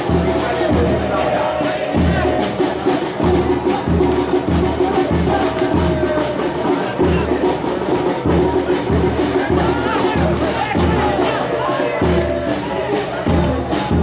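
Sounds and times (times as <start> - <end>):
crowd chanting a tune: 0.0 - 14.0
drums beating a steady rhythm: 0.0 - 14.0.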